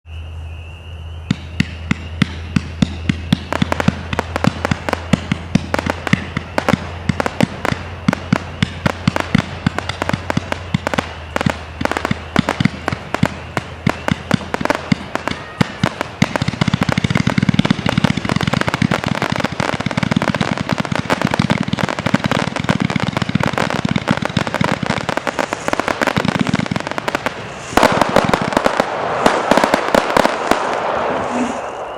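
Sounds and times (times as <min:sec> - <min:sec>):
firework shots popping: 0:01.3 - 0:31.9.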